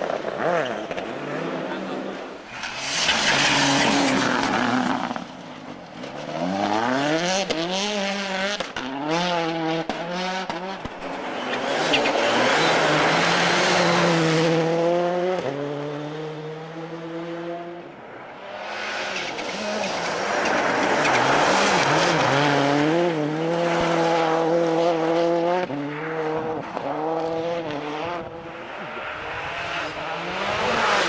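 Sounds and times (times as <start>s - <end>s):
rally car engine accelerating: 0.0s - 17.9s, 18.8s - 31.0s
car rushing on snow: 0.0s - 31.0s.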